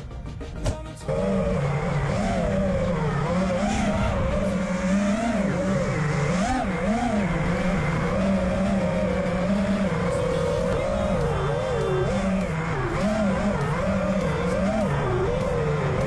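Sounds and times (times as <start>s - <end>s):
quadcopter motors whining: 1.0s - 16.0s.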